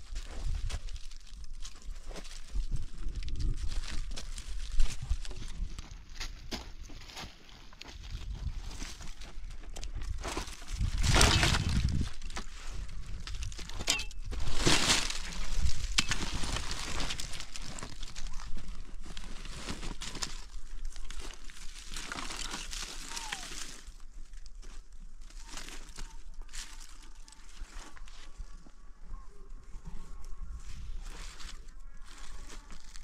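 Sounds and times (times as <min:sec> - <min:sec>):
crunching and crackling: 0:00.0 - 0:33.0.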